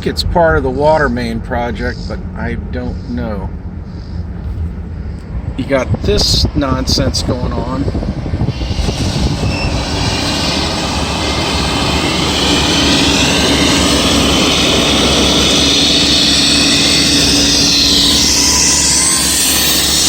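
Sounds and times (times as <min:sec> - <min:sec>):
heavy construction machinery running: 0:00.0 - 0:20.0
high whine sweeping up and down: 0:00.0 - 0:20.0.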